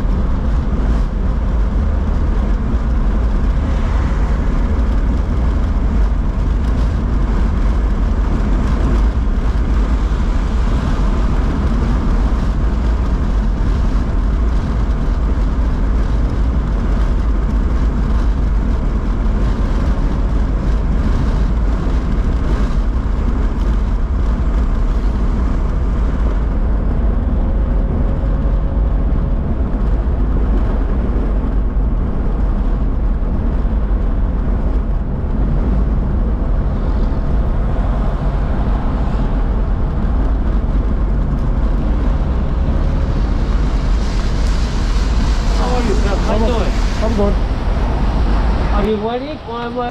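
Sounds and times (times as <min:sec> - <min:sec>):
city street traffic rumble: 0:00.0 - 0:49.9.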